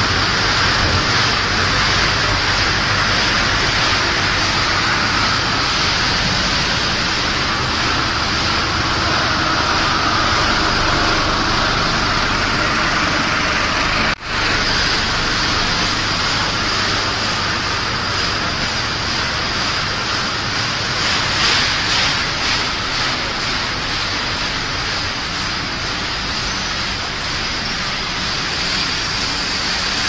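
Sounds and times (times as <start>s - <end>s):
production line mechanical hiss: 0.0s - 30.0s.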